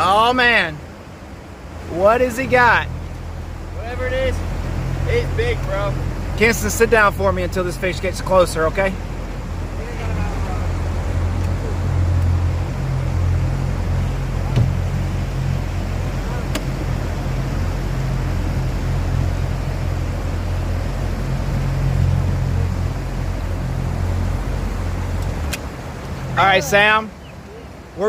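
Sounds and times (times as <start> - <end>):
outboard motor humming: 0.0 - 28.0.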